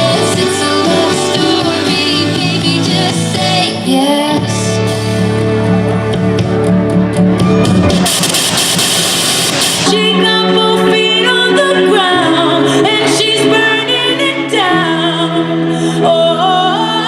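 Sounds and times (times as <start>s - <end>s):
pop song with singing and guitar: 0.0s - 17.0s.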